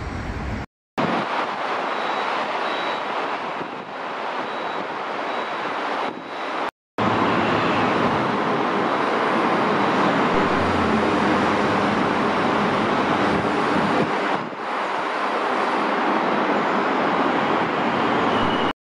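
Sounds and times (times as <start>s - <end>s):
road traffic noise: 0.0s - 18.7s.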